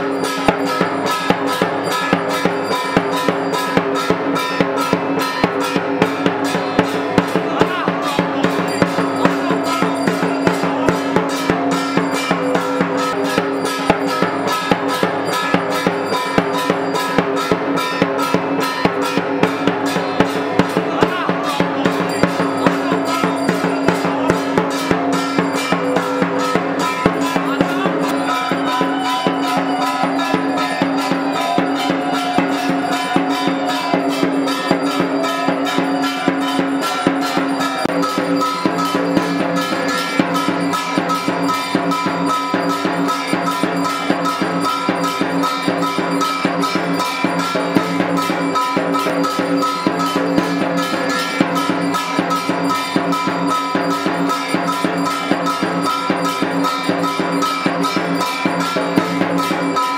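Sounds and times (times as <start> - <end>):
drum beaten in fast rhythm: 0.0 - 59.9
metallic ringing: 0.0 - 59.9.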